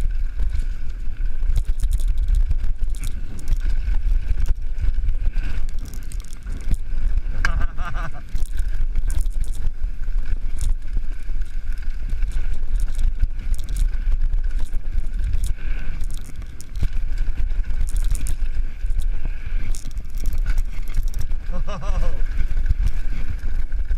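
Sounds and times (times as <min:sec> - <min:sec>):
wind rumble on microphone: 0:00.0 - 0:23.9.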